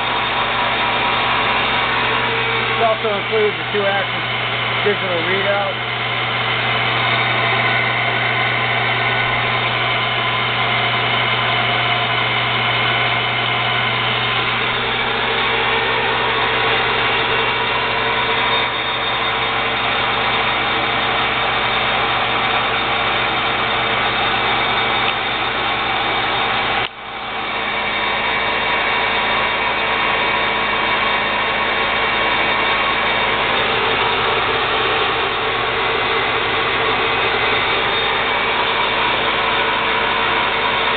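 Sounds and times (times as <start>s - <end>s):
metal lathe humming: 0.0s - 40.9s.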